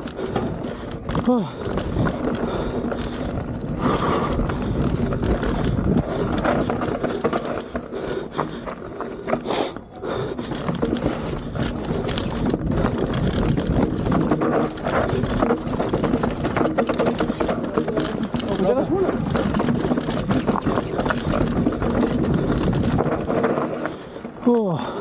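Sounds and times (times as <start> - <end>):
bike rattling and knocking: 0.0 - 25.0
bike tyres on dirt and stones: 0.0 - 25.0.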